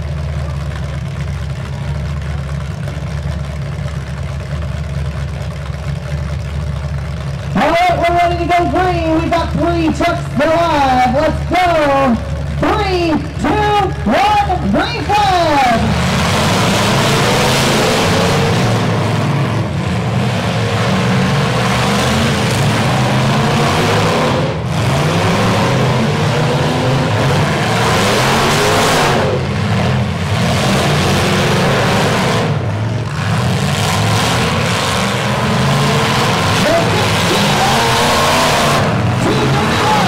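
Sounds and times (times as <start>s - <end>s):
pickup truck engines revving: 0.0s - 40.0s.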